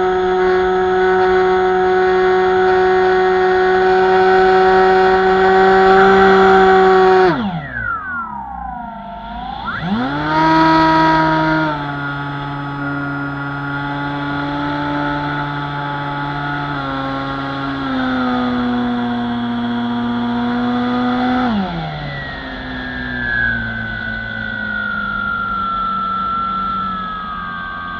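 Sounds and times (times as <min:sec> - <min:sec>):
electric motor and propeller whining: 0:00.0 - 0:27.9.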